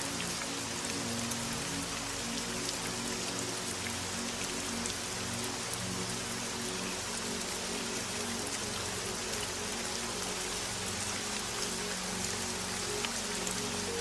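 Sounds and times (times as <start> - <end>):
rain patter: 0.0 - 14.0
soft music with long low notes: 0.0 - 14.0.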